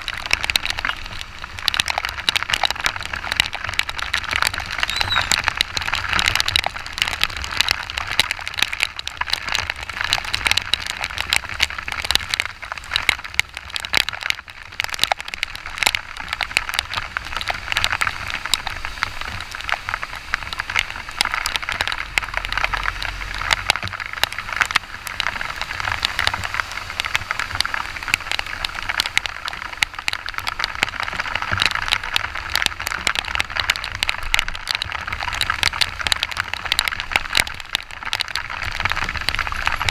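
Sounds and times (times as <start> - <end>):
heavy rain on microphone: 0.0 - 39.9.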